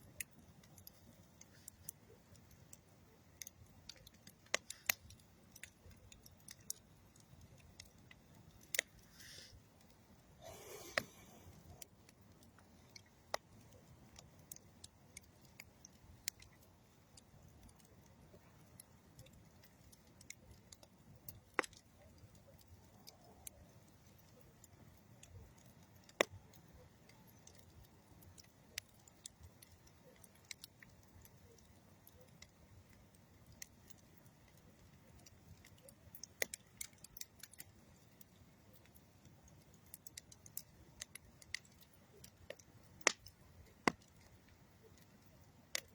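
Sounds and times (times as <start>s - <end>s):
campfire crackling and popping: 0.0s - 45.9s
low rush of burning fire: 0.0s - 45.9s.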